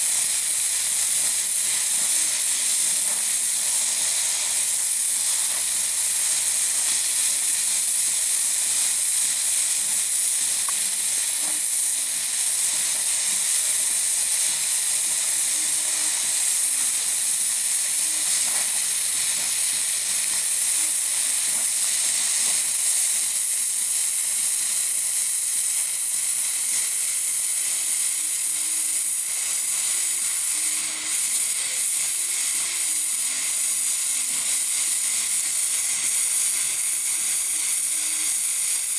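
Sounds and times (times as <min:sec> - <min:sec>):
weld puddle sizzling: 0:00.0 - 0:38.9
welding torch flame hissing: 0:00.0 - 0:38.9.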